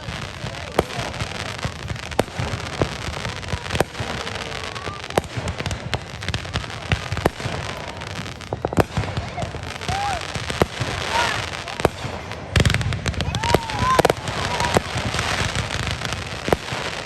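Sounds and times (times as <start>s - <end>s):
fireworks crackling: 0.0s - 17.0s
fireworks sharp bangs: 0.0s - 17.0s.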